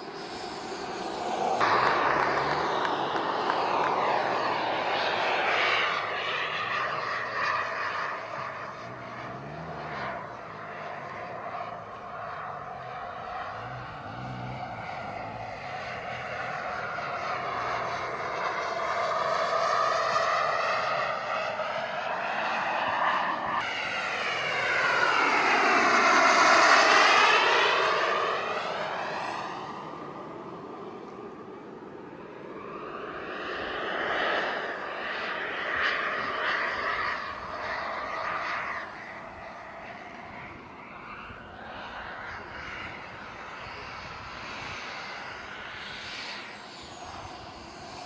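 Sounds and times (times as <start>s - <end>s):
model jet turbines whining: 0.0s - 48.0s.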